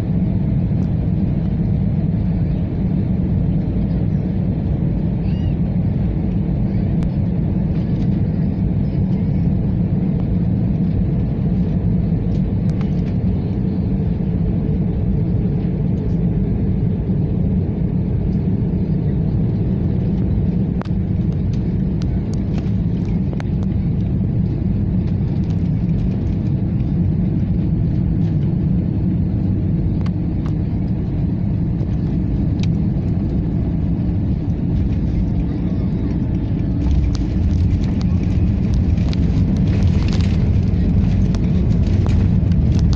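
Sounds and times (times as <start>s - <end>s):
jet engines rumbling in cabin: 0.0s - 42.9s
plane touching down on runway: 0.0s - 42.9s.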